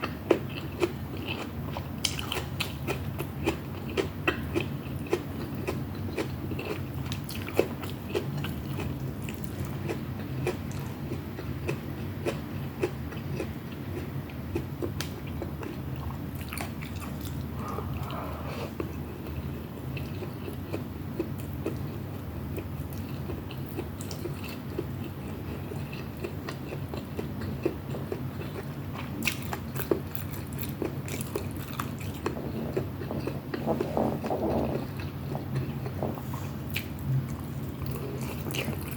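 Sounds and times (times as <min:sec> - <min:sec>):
person chewing and biting: 0:00.0 - 0:22.0, 0:22.6 - 0:38.9
steady low hum: 0:00.0 - 0:38.9.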